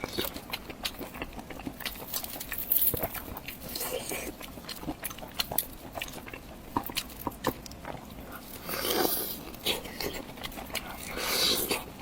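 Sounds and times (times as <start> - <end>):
chewing with wet clicks: 0.0 - 12.0.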